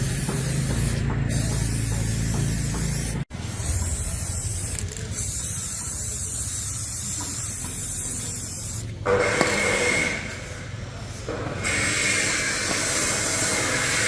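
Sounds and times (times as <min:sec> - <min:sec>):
hissing spray: 0:00.0 - 0:09.0, 0:11.6 - 0:14.0.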